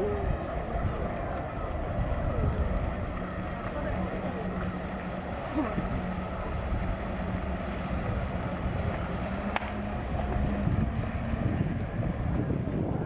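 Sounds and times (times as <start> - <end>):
model boat motor hum: 0.0 - 13.0
water rushing: 0.0 - 13.0.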